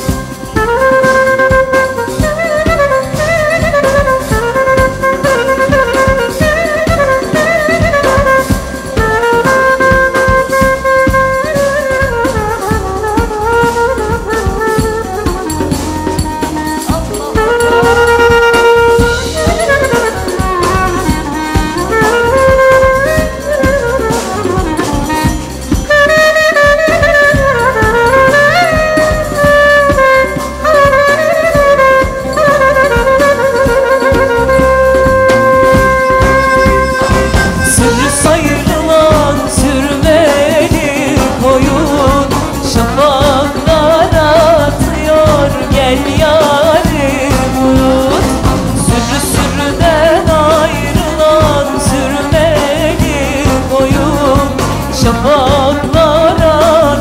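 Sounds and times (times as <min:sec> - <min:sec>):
band with drum kit: 0:00.0 - 0:57.0
clarinet solo melody: 0:00.0 - 0:57.0.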